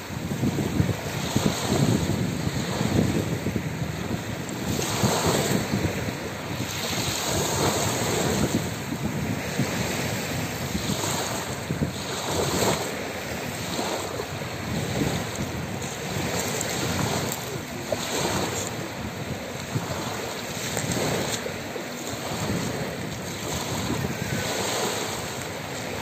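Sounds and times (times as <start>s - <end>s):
waves lapping on pebbles: 0.0s - 26.0s.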